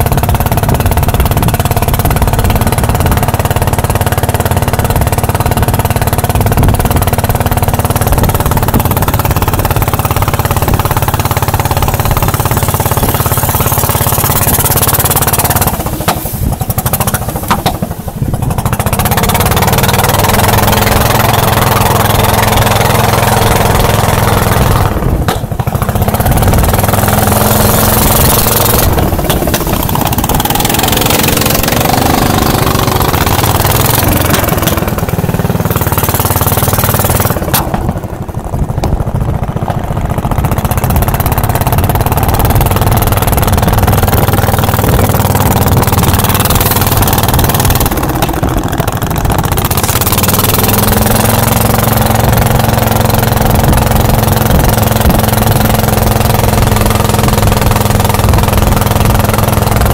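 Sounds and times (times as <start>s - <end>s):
motorboat engine running: 0.0s - 59.9s
water rushing along hull: 0.0s - 59.9s.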